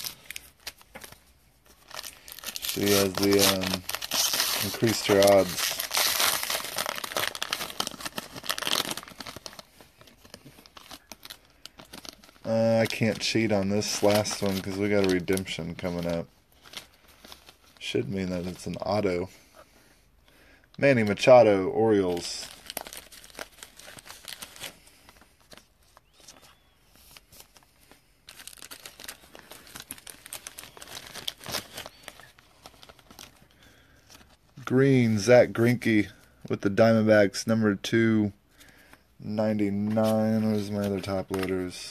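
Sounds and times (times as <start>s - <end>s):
plastic card sleeves crinkling: 0.0s - 19.7s, 20.8s - 36.9s, 38.5s - 41.9s.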